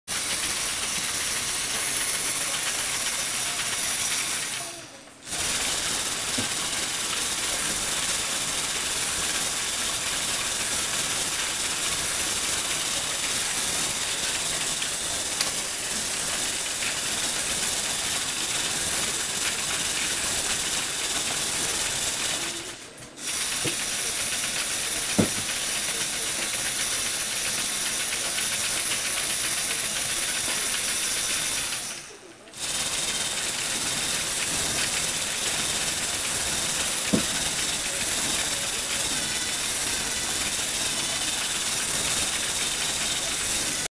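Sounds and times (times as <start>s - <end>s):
electric motor and gears whirring: 0.1s - 43.9s.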